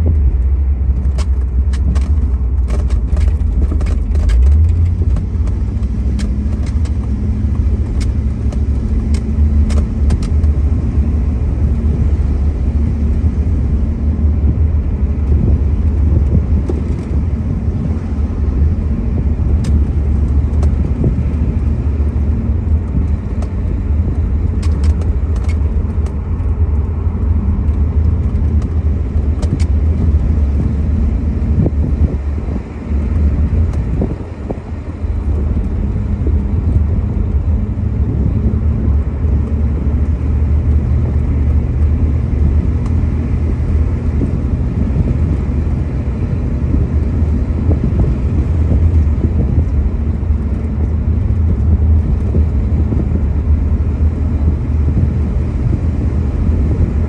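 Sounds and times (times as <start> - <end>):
car engine rumble: 0.0 - 57.0
road noise: 0.0 - 57.0.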